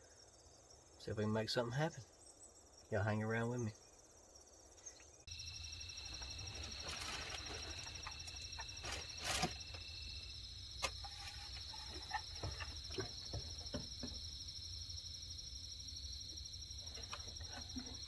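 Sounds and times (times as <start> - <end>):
insect chorus trilling: 0.0 - 18.0
thin insect trill: 0.0 - 18.0.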